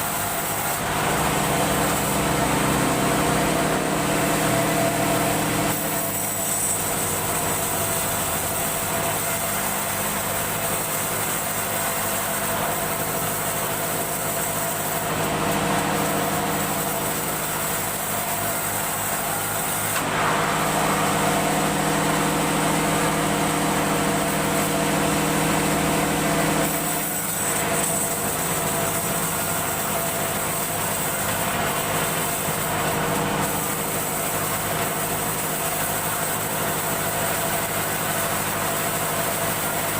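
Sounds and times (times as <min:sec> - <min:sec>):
woodworking machine running: 0:00.0 - 0:39.9.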